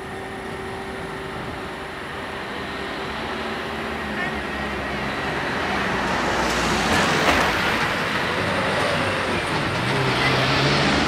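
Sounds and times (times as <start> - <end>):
car engine: 0.0 - 11.0
cars driving over crossing: 0.3 - 11.0.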